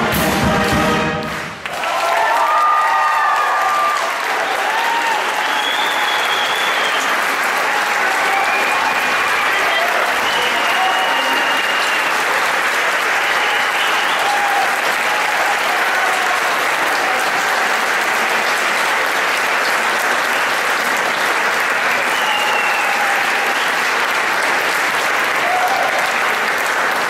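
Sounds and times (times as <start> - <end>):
audience applauding: 1.2 - 27.0.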